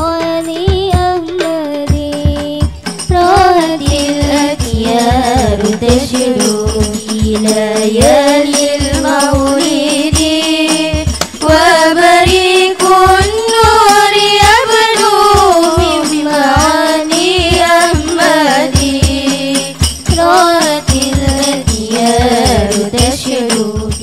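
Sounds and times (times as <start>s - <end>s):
frame drums beating: 0.0s - 24.0s
girls singing in unison: 0.0s - 24.0s.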